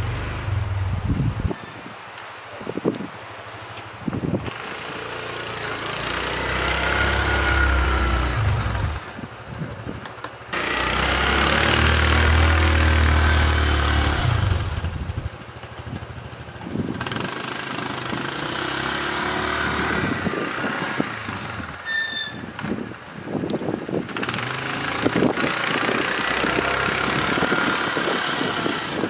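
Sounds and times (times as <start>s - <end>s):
atv engine rumbling: 0.0s - 1.6s, 3.5s - 29.0s.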